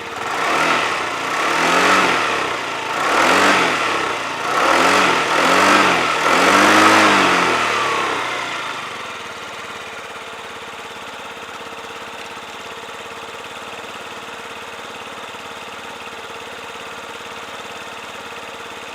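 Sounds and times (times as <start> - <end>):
scooter engine revving and idling: 0.0 - 18.9.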